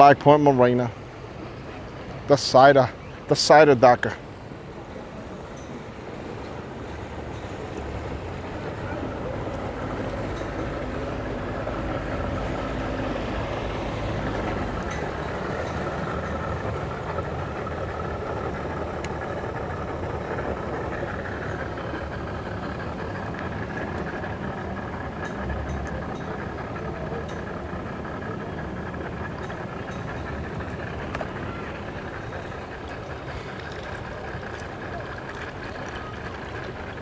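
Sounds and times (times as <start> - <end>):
engines idling: 0.0 - 37.0.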